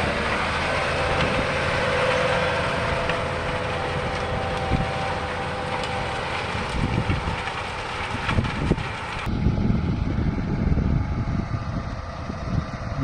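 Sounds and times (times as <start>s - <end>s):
tractor running: 0.0s - 13.0s.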